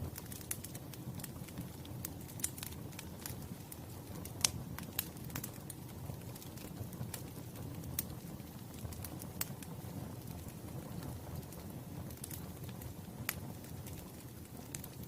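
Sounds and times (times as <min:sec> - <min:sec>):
fire low rumble: 0:00.0 - 0:15.0
wood fire pops and snaps: 0:00.0 - 0:15.0.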